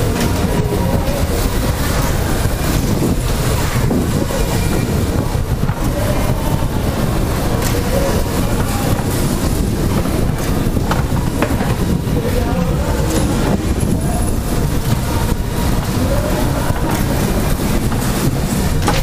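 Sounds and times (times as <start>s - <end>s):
dodgem car rumbling on metal floor: 0.0s - 19.0s.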